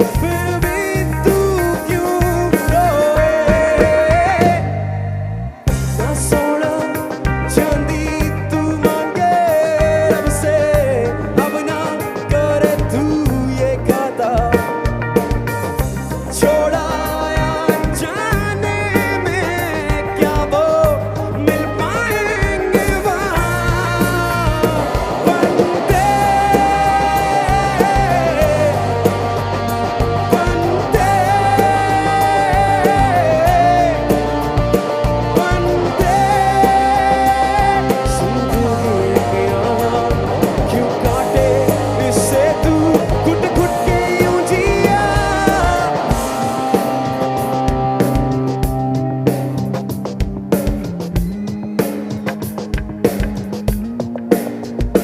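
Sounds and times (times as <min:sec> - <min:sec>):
steady bass: 0:00.0 - 0:51.5
drum kit hits: 0:00.0 - 0:55.0
rock band playing live: 0:00.0 - 0:55.0.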